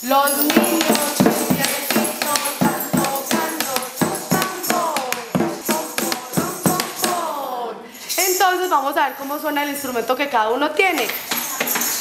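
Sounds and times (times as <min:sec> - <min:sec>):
jingling percussion: 0:00.0 - 0:12.0.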